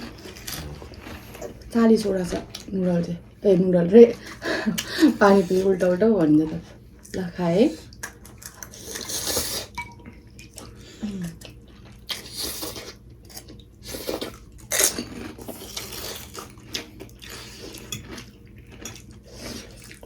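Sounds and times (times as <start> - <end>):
chewing and slurping: 0.0 - 2.7, 4.8 - 20.0.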